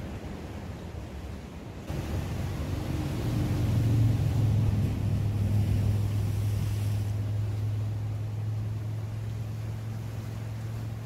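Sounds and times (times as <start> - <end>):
engine droning: 1.9 - 11.0.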